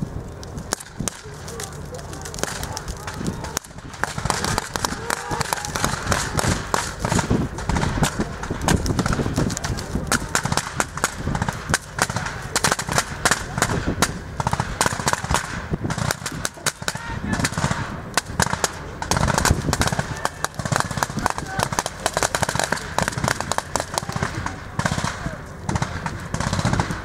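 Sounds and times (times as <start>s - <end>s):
rifle shots and bursts: 2.4s - 27.0s.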